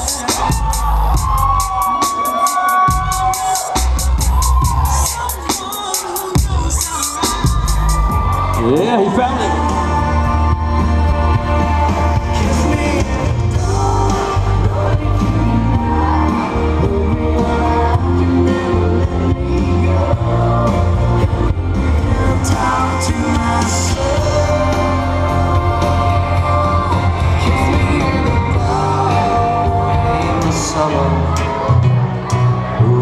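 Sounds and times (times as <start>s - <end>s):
dance music with singer: 0.0s - 33.0s.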